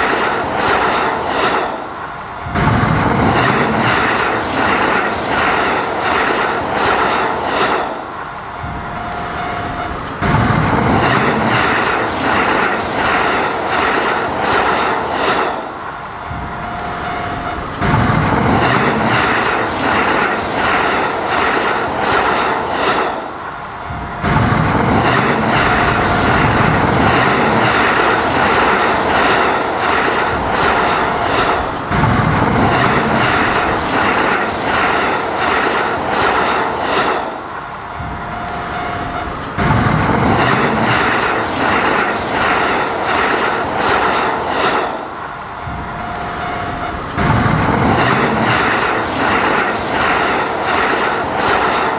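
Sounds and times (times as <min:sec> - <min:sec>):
train wheels clickety-clack: 0:00.0 - 0:51.9.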